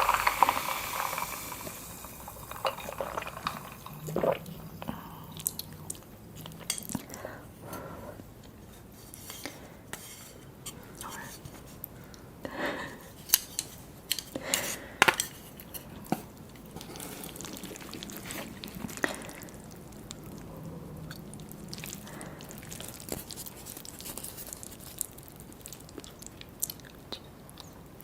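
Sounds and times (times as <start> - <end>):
chewing noodles: 0.0 - 9.8, 15.2 - 28.0.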